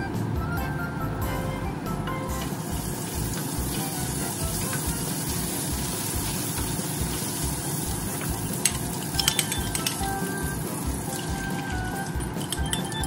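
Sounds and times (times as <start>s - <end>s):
food sizzling in oil: 2.5s - 13.0s.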